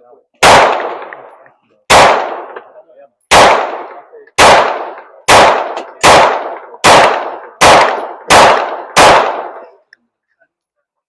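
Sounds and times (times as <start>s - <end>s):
gunshots with echo: 0.4s - 9.8s.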